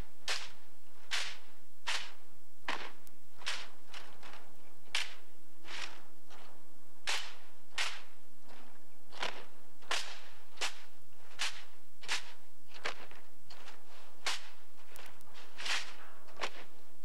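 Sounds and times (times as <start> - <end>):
hand slaps on rifles: 0.3 - 16.7.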